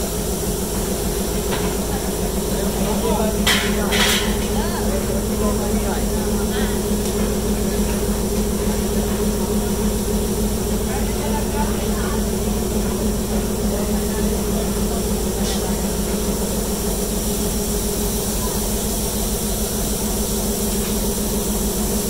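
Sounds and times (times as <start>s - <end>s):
constant low hum: 0.0s - 22.0s
steam hissing: 0.0s - 22.0s.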